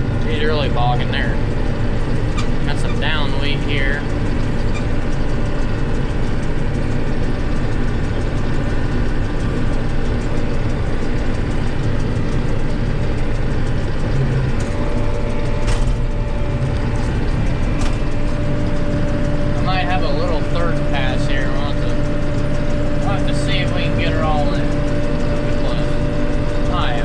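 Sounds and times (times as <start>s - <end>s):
combine harvester engine and machinery: 0.0s - 27.0s
high steady tone: 0.0s - 27.0s.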